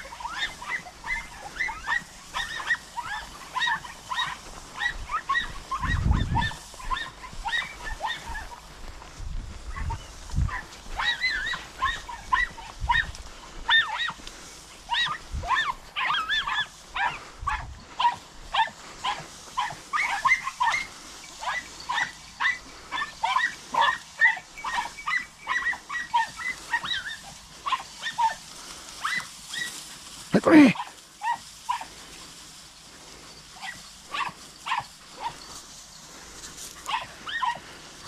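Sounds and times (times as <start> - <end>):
hounds yelping barks: 0.0 - 9.0, 9.6 - 38.0.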